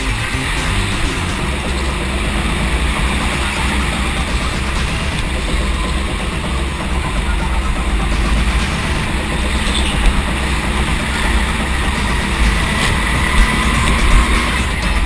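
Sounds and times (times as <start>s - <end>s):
go-kart engine racing: 0.0s - 15.0s.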